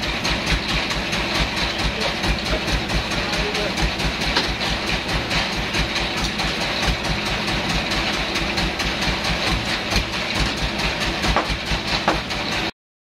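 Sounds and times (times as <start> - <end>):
constant machine noise: 0.0 - 12.7
sawmill engine throbbing: 0.0 - 12.7.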